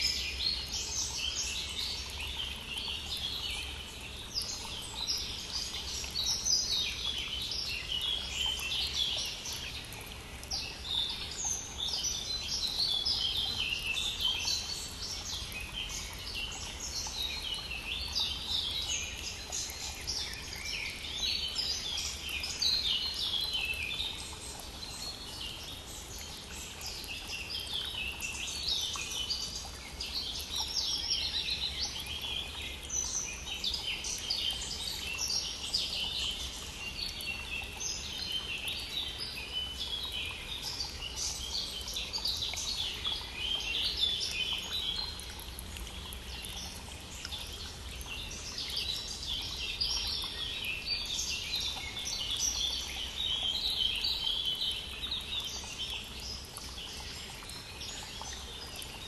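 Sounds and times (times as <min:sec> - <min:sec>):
songbirds singing in chorus: 0:00.0 - 0:59.0.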